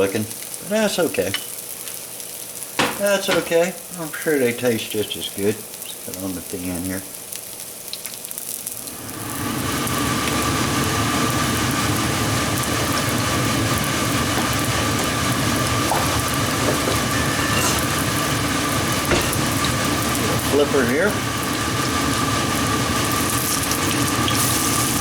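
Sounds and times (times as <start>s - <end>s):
batter sizzling in hot oil: 0.0s - 25.0s.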